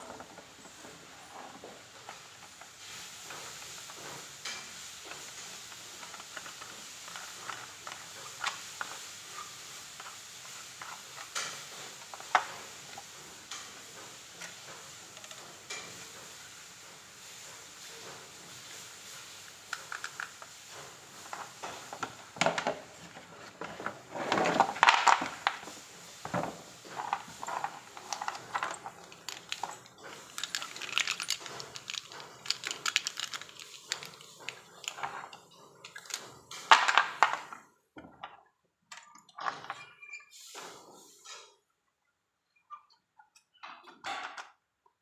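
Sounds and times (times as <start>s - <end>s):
rustling of packaging: 0.0s - 16.6s, 17.2s - 37.7s.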